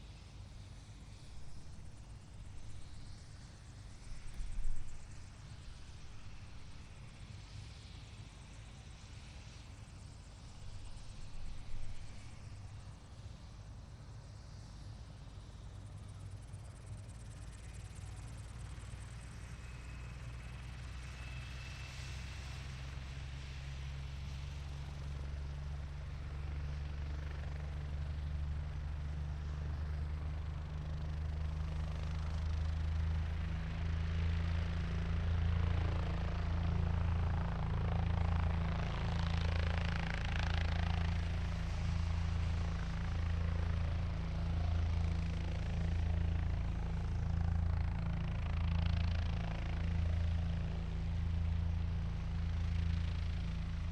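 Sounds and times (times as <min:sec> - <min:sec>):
helicopter engine and rotor: 0:00.0 - 0:21.6, 0:22.3 - 0:53.9.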